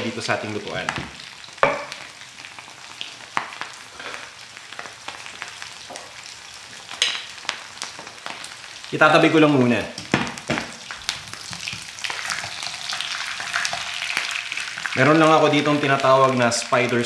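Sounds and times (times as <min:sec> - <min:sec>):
pork frying in a wok: 0:00.0 - 0:17.0.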